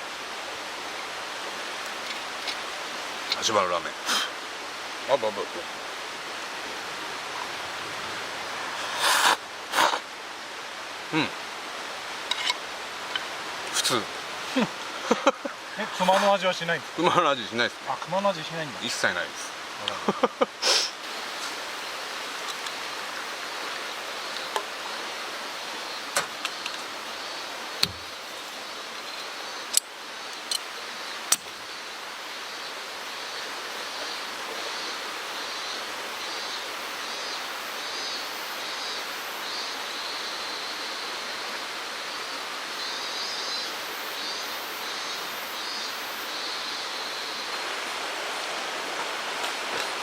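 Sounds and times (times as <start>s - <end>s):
mountain stream flowing: 0.0s - 50.0s.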